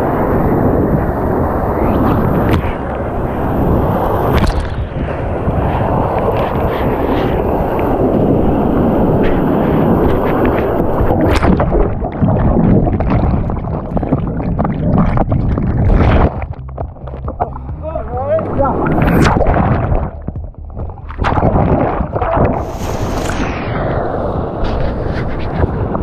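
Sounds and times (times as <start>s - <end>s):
whitewater rushing and splashing: 0.0s - 25.0s
wind buffeting microphone: 0.0s - 26.0s.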